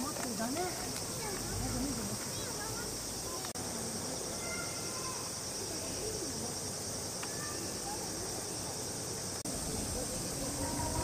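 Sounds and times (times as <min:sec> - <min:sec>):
faint voices murmuring: 0:00.0 - 0:11.0
insect chorus buzzing: 0:00.0 - 0:11.0.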